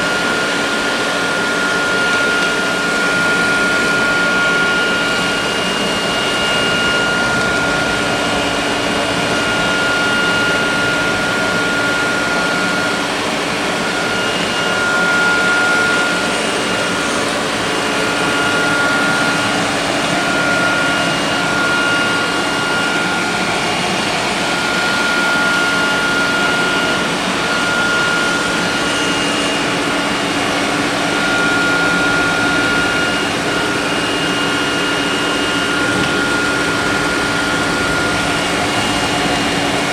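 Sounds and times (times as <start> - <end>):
high whine: 0.0 - 39.9
robot vacuum fan rushing: 0.0 - 39.9.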